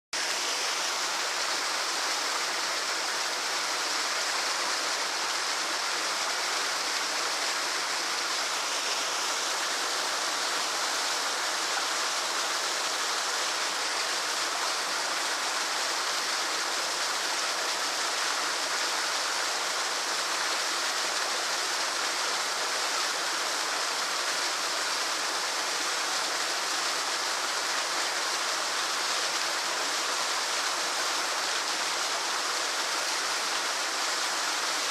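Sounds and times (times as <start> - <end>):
small waterfall pouring into lake: 0.2 - 34.9.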